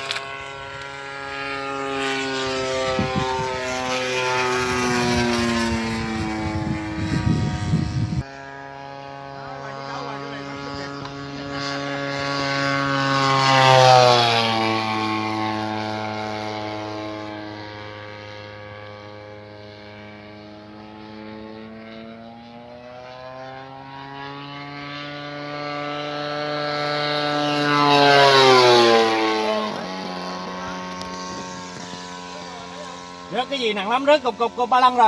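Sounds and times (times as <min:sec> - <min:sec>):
model airplane engine flying past: 0:00.0 - 0:35.0.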